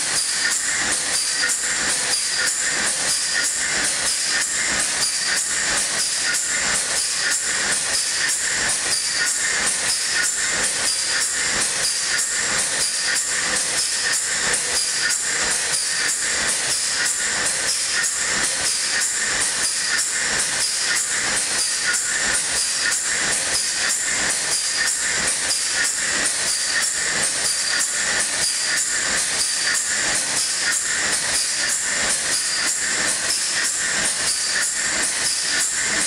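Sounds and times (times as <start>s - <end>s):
gas engine machinery noise: 0.0s - 36.0s
rhythmic metallic clatter: 0.0s - 36.0s.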